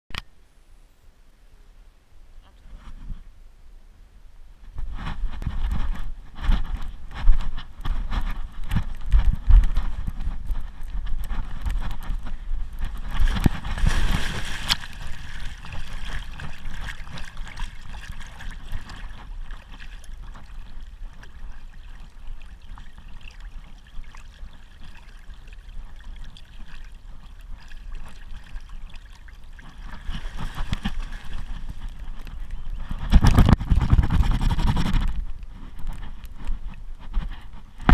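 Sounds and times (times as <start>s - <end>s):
wind: 0.1s - 37.9s
camera rumbling and rustling: 2.4s - 3.3s, 4.6s - 37.9s.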